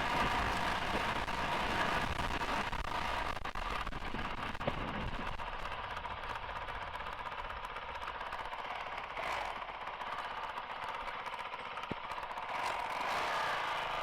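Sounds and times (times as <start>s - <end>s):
motorcycle engine riding: 0.0s - 14.0s.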